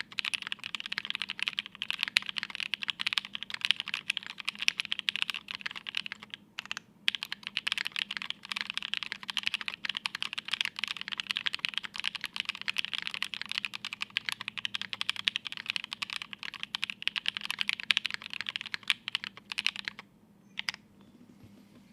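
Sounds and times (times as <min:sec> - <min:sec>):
mechanical keyboard typing: 0:00.0 - 0:20.0, 0:20.6 - 0:20.8.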